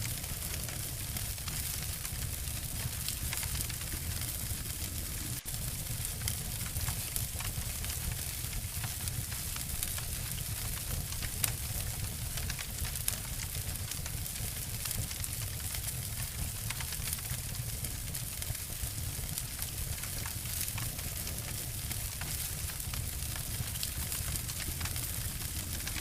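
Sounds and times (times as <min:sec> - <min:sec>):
low rumble of burning: 0:00.0 - 0:26.0
wood fire crackling: 0:00.0 - 0:26.0.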